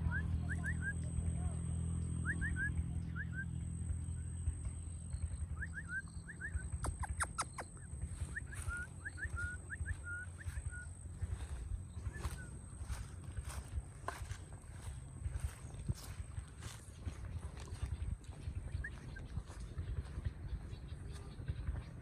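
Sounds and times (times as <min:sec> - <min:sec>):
bird chirping: 0:00.0 - 0:22.0
low rumble: 0:00.0 - 0:22.0.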